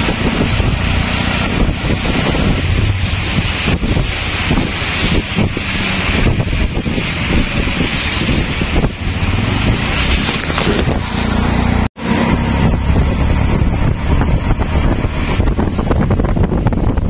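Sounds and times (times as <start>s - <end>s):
street and vehicle noise: 0.0s - 17.0s
wind rumbling on microphone: 0.0s - 17.0s.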